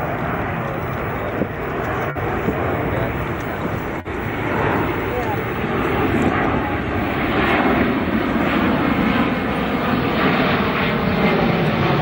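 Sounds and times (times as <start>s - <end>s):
jet plane flying past: 0.0s - 12.0s.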